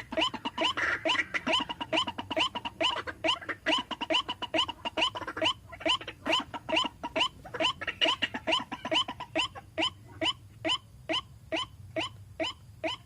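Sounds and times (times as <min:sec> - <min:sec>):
bird calling harsh repeated notes: 0:00.0 - 0:13.0.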